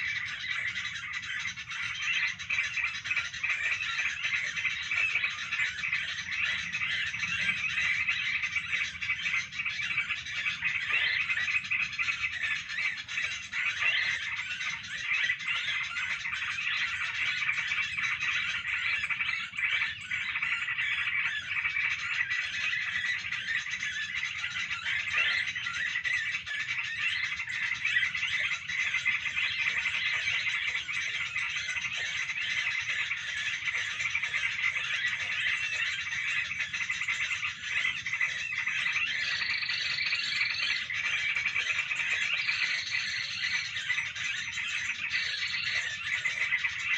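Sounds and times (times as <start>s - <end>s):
high chattering animal calls: 0.0s - 46.9s.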